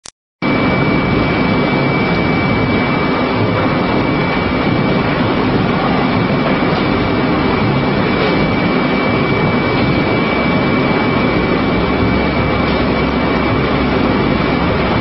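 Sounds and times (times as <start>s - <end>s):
high-pitched mechanical whine: 0.4s - 15.0s
industrial shredder running: 0.5s - 15.0s.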